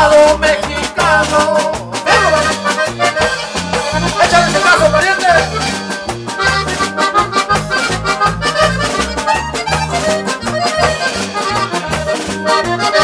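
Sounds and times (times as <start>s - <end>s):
accordion melody: 0.0s - 13.0s
bouncing bass line: 0.0s - 13.0s.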